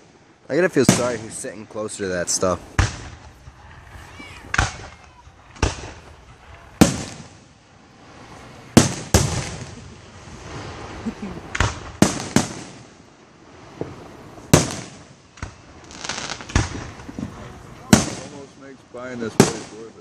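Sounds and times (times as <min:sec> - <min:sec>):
firework crackle: 0:00.0 - 0:20.0
firework shells bursting: 0:02.3 - 0:18.6.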